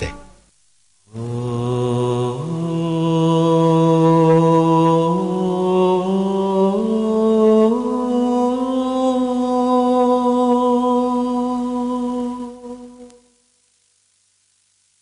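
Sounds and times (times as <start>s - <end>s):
slow vocal chant: 1.1s - 13.5s.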